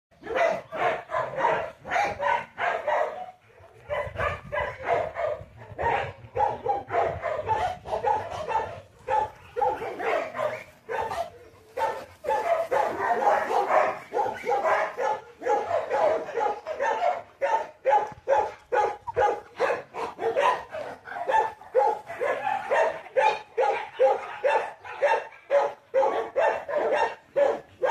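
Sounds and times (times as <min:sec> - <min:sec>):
dog barking rapidly: 0:00.2 - 0:27.9.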